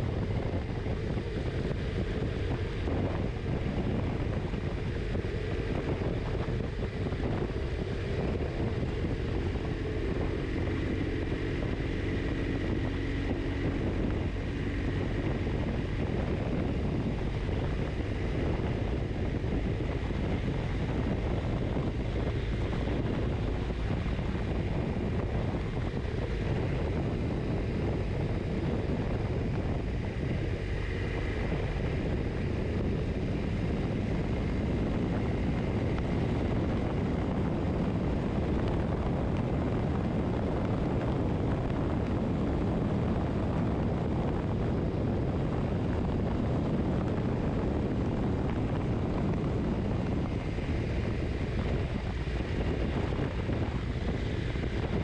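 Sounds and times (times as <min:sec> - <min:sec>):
motorcycle engine rumble: 0:00.0 - 0:55.0
wind noise on microphone: 0:00.0 - 0:55.0.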